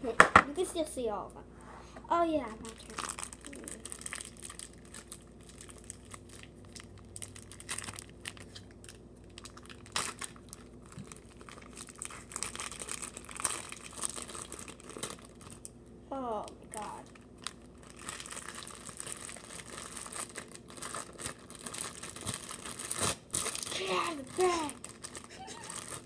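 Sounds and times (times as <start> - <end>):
plastic bags crinkling: 2.4 - 15.7, 16.7 - 26.0.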